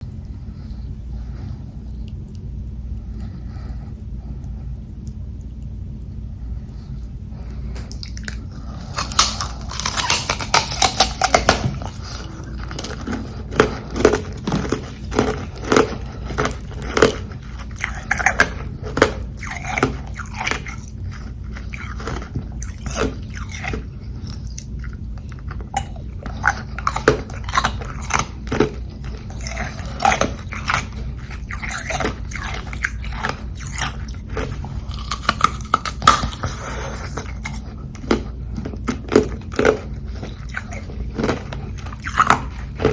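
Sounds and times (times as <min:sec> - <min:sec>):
chewing crunchy ice: 0:07.8 - 0:42.9.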